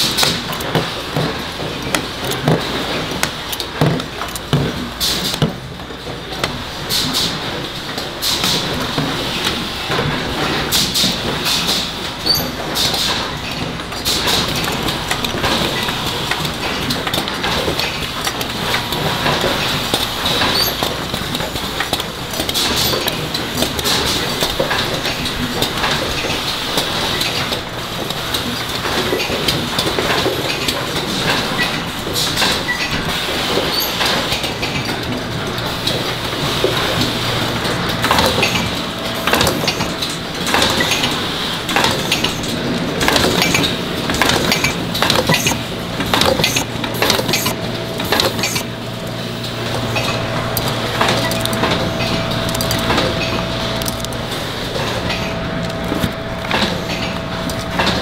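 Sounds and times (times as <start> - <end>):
machine din from conveyors: 0.0 - 58.0.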